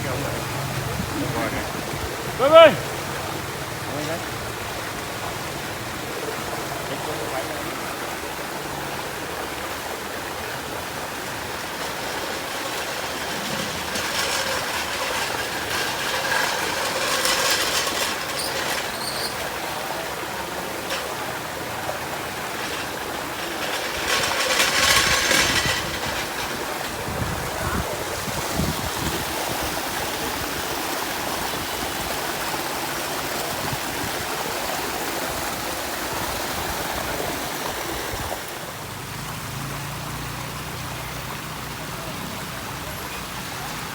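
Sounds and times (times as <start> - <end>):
pump running: 0.0 - 43.9
water gushing: 0.0 - 43.9.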